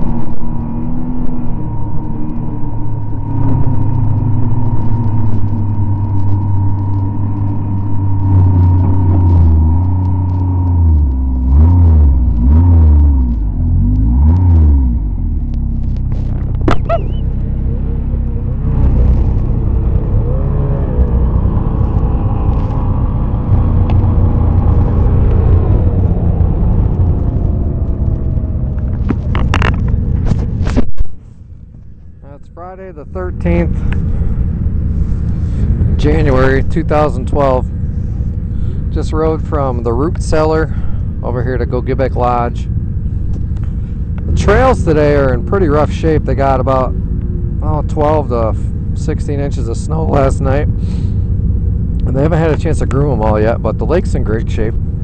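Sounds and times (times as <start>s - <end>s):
snowmobile engine running: 0.0s - 30.8s, 32.2s - 55.0s.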